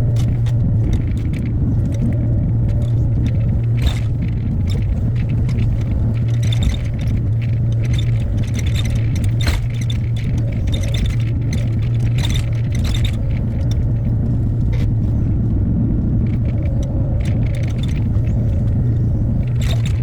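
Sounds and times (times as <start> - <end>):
excavator diesel engine droning: 0.0 - 20.0.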